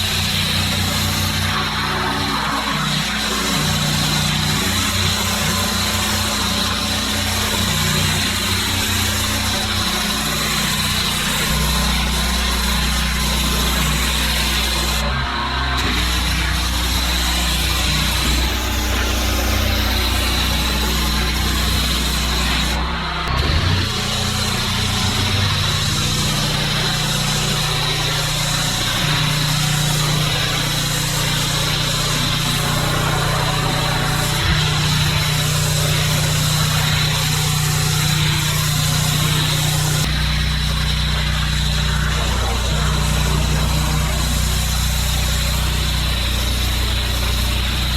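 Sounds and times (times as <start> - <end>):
pressure washer engine humming: 0.0 - 47.9
water jet hissing on paving: 0.0 - 47.9.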